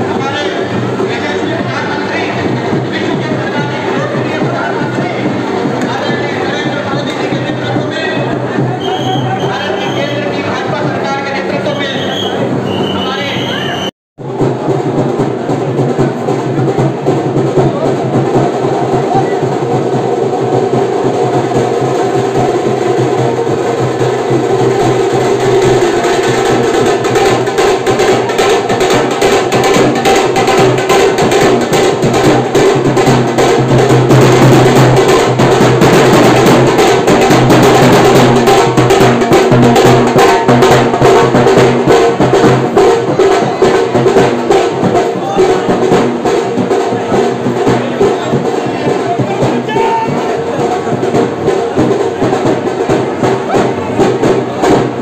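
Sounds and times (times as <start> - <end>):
percussion-heavy music: 0.0 - 55.0.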